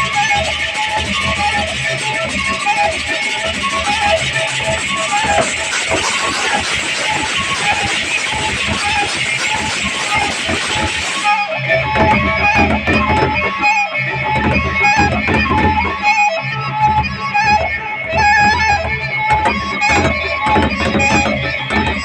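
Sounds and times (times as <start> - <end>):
bamboo flute melody: 0.0 - 22.0.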